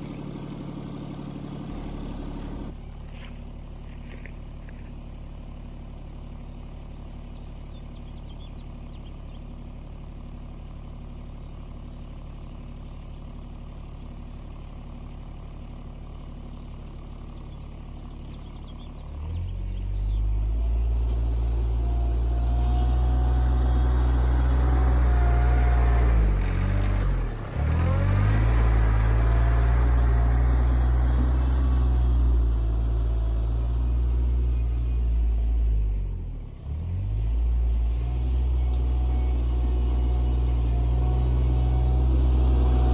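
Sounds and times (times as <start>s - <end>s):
tractor engine idling and revving: 0.0s - 42.9s.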